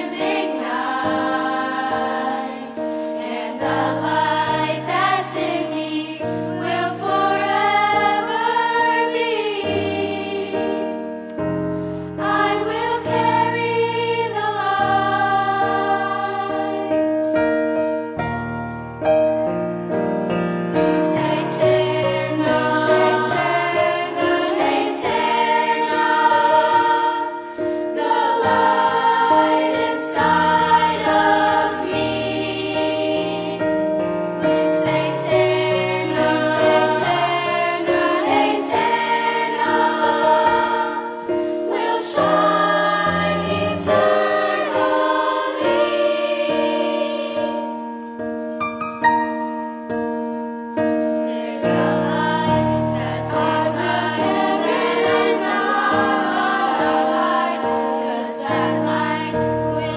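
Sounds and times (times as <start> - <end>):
children's chorus singing: 0.0 - 11.2, 12.2 - 17.4, 20.7 - 48.0, 51.2 - 59.9
piano accompaniment: 0.0 - 59.9.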